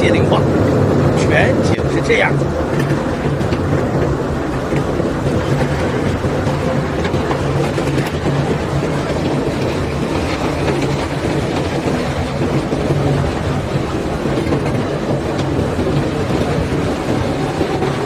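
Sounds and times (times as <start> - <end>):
unloading machinery rattling rumble: 0.0 - 18.0.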